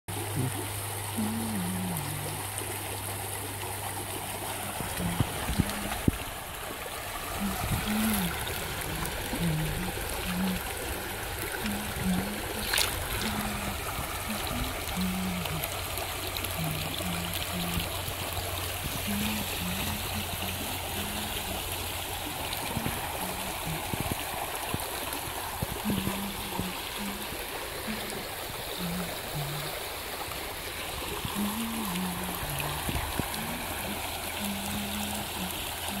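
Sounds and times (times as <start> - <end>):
river rushing over stones: 0.1 - 36.0.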